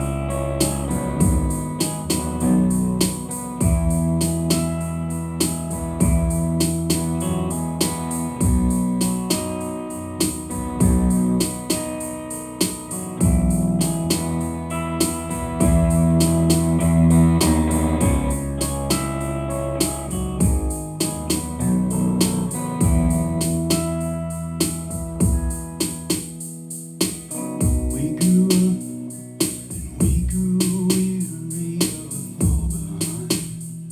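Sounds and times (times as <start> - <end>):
instrumental music with held chords: 0.0 - 33.9.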